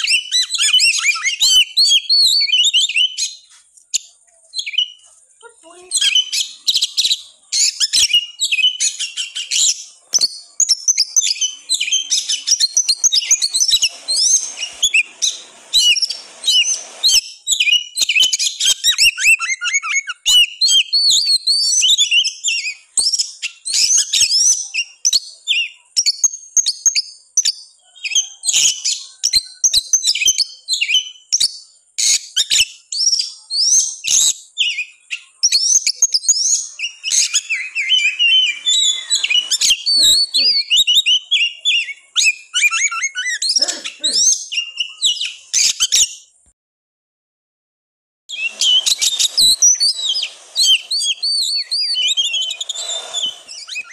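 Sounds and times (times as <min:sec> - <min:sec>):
songbird chirping and trilling: 0:00.0 - 0:46.3, 0:48.3 - 0:53.9.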